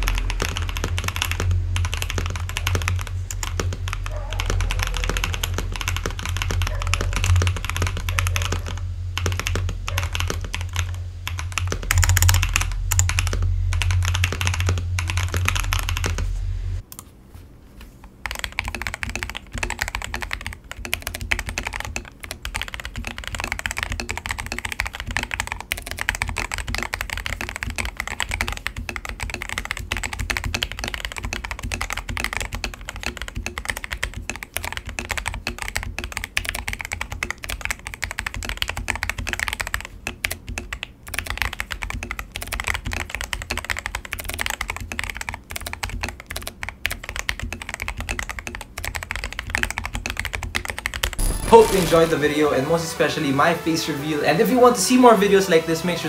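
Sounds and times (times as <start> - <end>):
fast mechanical keyboard typing: 0.0 - 16.3, 18.2 - 53.9, 54.5 - 56.0.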